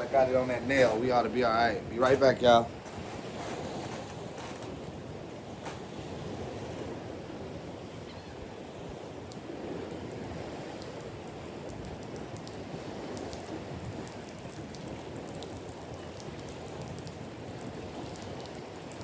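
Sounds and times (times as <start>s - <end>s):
waves washing: 0.0s - 19.0s
wind noise on microphone: 0.0s - 19.0s.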